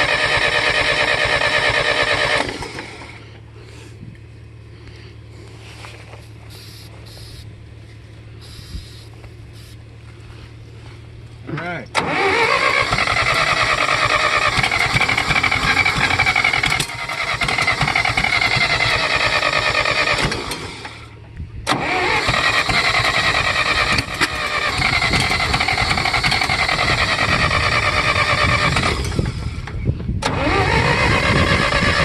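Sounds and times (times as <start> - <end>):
tractor engine cranking: 0.0 - 32.0.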